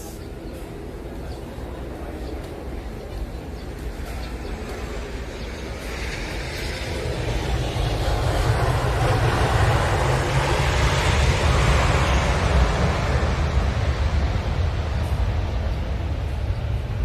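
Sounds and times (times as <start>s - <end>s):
jet airliner roaring: 0.0s - 17.0s.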